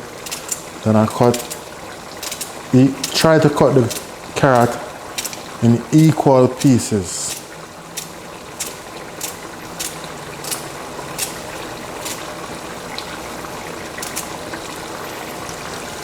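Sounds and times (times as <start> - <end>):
pot of curry bubbling: 0.0 - 6.6, 7.2 - 16.0.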